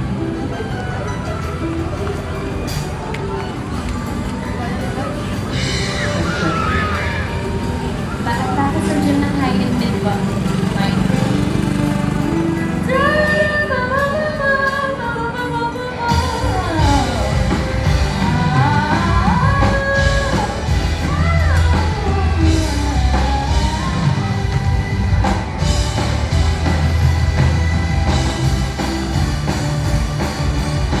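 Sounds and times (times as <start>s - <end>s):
band playing: 0.0s - 31.0s
drums: 0.0s - 31.0s.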